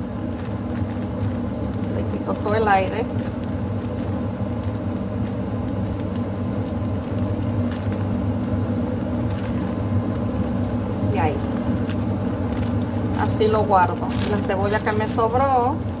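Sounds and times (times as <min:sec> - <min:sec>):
low machine hum: 0:00.0 - 0:16.0
plastic bag crinkling: 0:00.0 - 0:16.0.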